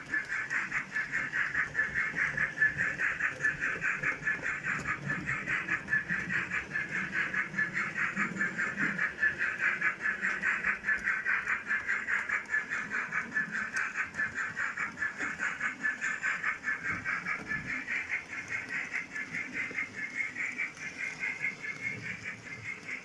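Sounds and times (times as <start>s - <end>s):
model train locomotive buzzing: 0.0s - 23.0s.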